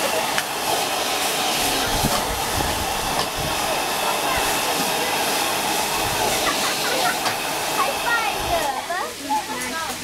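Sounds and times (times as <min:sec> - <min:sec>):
food frying in a wok: 0:00.0 - 0:10.0.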